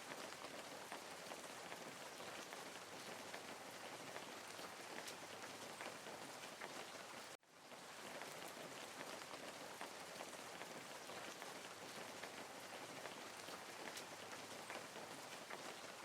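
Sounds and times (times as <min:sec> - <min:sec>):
hissing water with pattering: 0:00.0 - 0:16.0.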